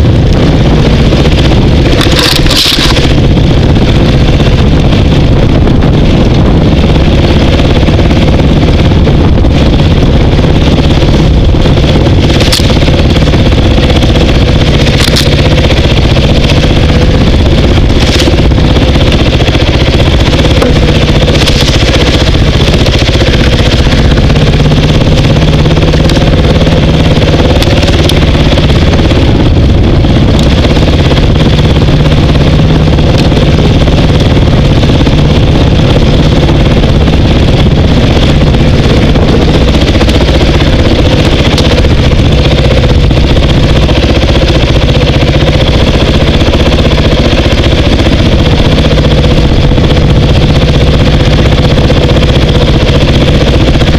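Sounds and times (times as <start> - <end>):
dirt bike engine running: 0.0 - 53.9
knocks and clatter from bike: 0.3 - 5.2, 9.5 - 53.9.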